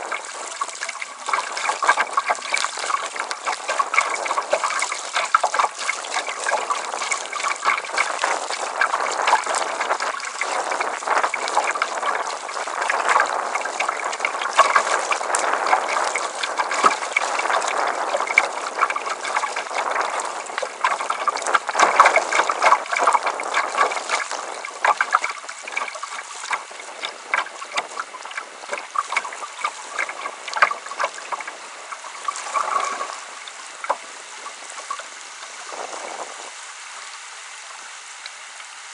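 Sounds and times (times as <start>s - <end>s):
water splashing against kayak: 0.0s - 38.9s.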